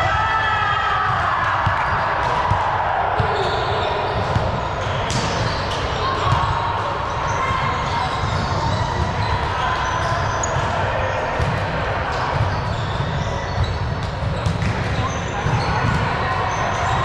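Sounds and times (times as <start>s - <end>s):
hum of voices and movement: 0.0s - 17.0s.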